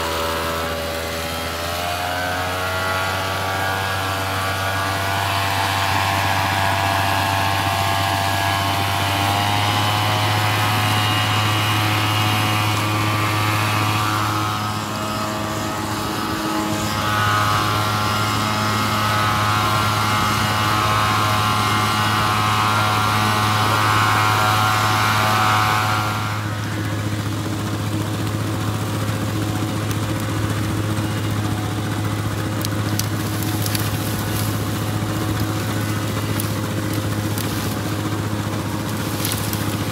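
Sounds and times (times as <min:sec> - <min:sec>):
backpack blower engine whining: 0:00.0 - 0:39.9.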